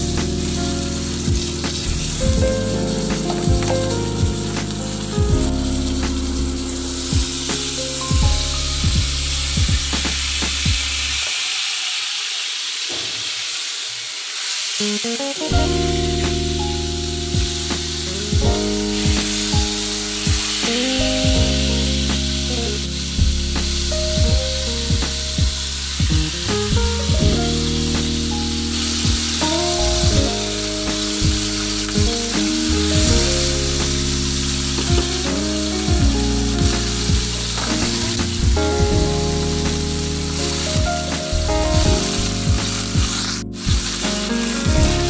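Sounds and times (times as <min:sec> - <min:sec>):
background music with steady beat: 0:00.0 - 0:11.2, 0:14.8 - 0:45.0
fish sizzling in a pan: 0:00.0 - 0:23.9, 0:27.5 - 0:45.0.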